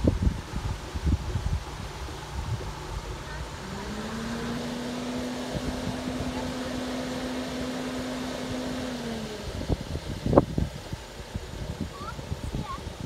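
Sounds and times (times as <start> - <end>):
barrier motor humming: 0.0 - 13.0.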